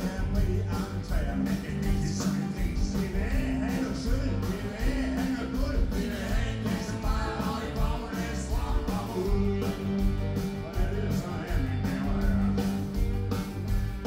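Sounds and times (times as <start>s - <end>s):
person singing: 0.0s - 13.1s
bass guitar: 0.0s - 14.0s
drum kit beat: 0.0s - 14.0s
electric guitars: 0.0s - 14.0s.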